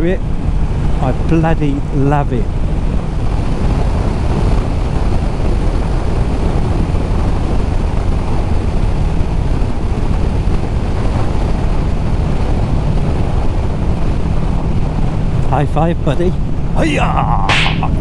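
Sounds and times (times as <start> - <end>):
motorcycle engine and road noise: 0.0 - 18.0
wind rushing on microphone: 0.0 - 18.0.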